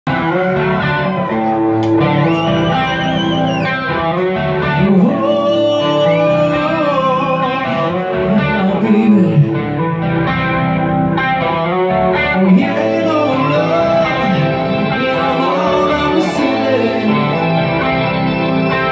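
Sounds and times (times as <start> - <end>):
bass guitar: 0.0 - 18.9
electric guitar lead: 0.0 - 18.9
drums: 0.1 - 18.9.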